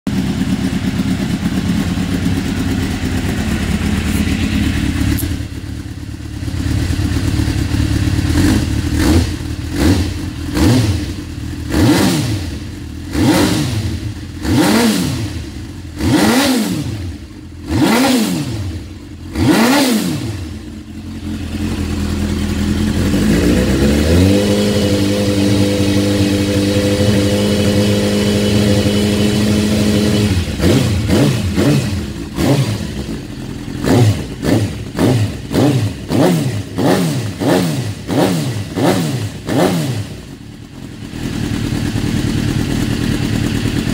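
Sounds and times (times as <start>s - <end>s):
motorcycle engine revving: 0.1s - 43.9s.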